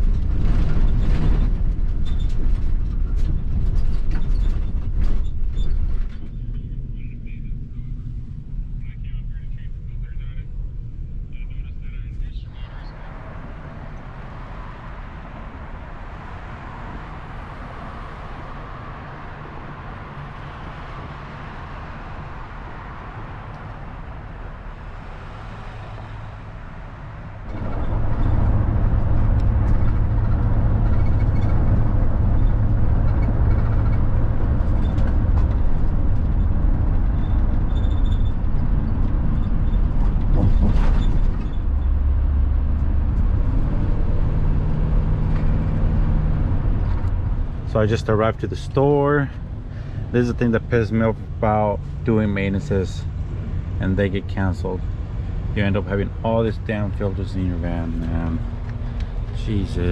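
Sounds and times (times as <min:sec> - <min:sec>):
van engine and road rumble: 0:00.0 - 0:59.9.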